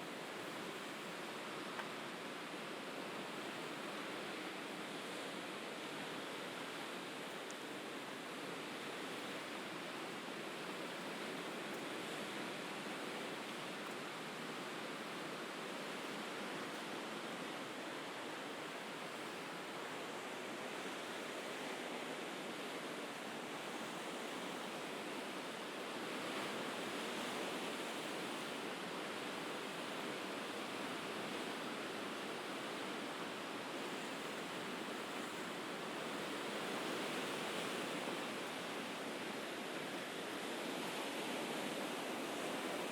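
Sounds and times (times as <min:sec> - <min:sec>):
surf washing against shore: 0:00.0 - 0:42.9.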